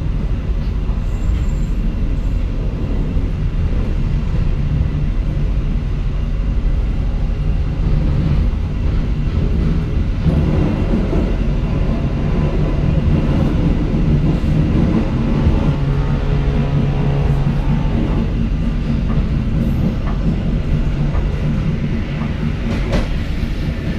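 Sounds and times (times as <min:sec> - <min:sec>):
diesel train engine drone: 0:00.0 - 0:23.9
train wheels rumbling on track: 0:00.0 - 0:23.9.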